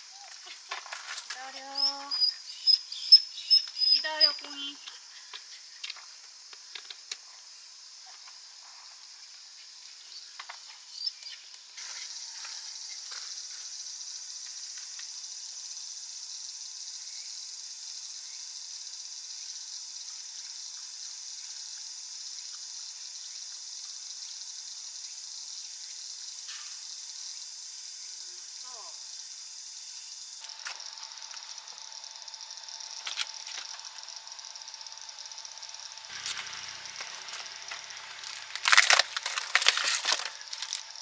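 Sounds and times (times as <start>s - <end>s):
insects chorus: 0.0s - 41.0s.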